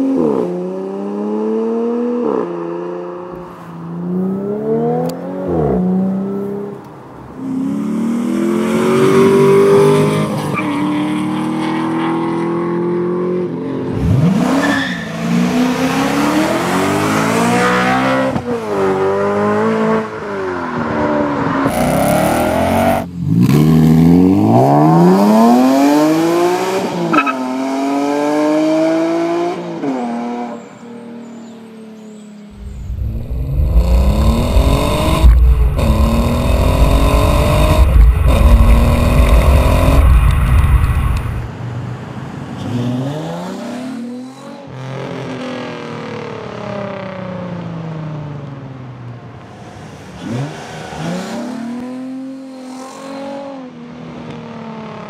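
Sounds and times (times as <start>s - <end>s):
car engines accelerating hard: 0.0s - 30.5s, 32.5s - 47.1s, 49.4s - 55.0s.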